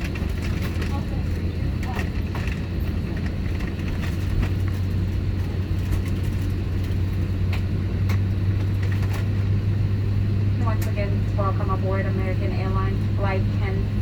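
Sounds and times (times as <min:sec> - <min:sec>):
aircraft cabin hum: 0:00.0 - 0:14.0.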